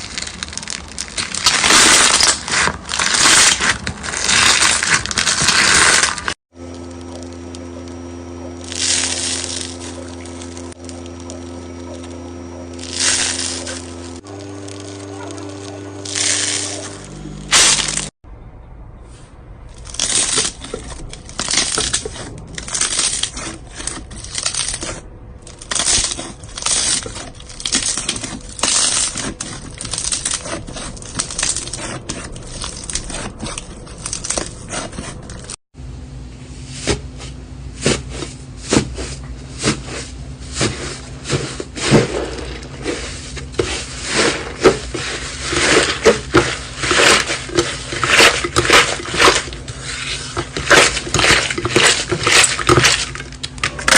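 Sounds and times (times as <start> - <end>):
slime squelching and crackling: 0.0 - 18.1, 19.7 - 35.6, 37.8 - 53.9.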